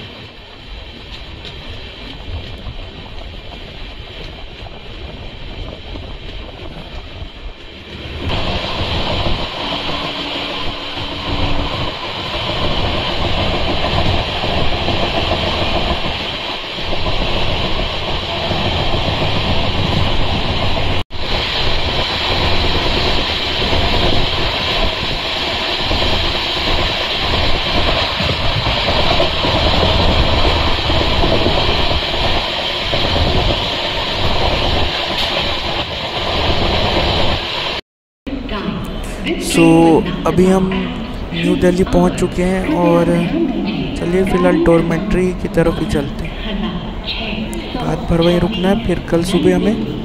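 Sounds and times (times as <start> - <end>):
train rumble and rattle: 0.0 - 50.0.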